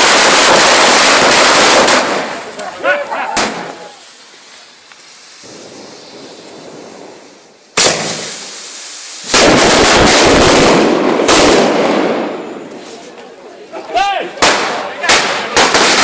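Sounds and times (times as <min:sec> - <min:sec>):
firecracker bang: 0:00.0 - 0:04.6, 0:05.4 - 0:12.9, 0:14.4 - 0:16.0
firecrackers cracking rapidly: 0:00.0 - 0:13.2, 0:13.8 - 0:16.0.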